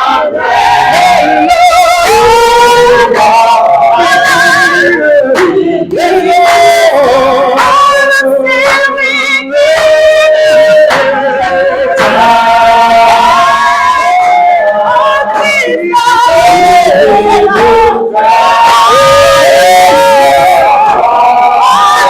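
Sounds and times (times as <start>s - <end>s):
voices singing worship song: 0.0s - 22.0s.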